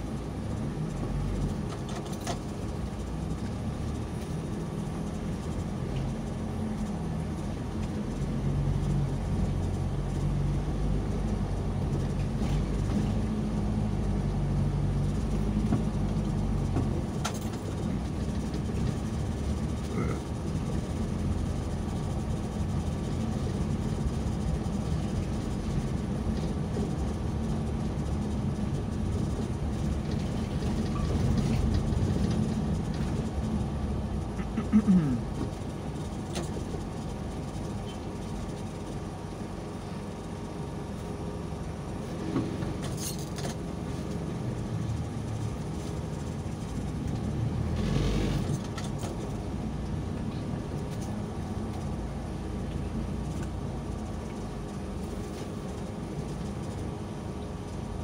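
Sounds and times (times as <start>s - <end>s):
vehicle engine with road noise: 0.0s - 58.0s.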